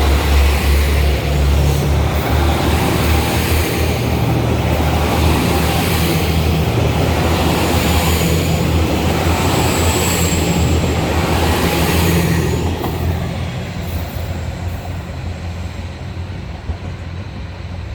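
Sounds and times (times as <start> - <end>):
diesel railcar engines droning: 0.0 - 17.9
train running rumble: 0.0 - 17.9.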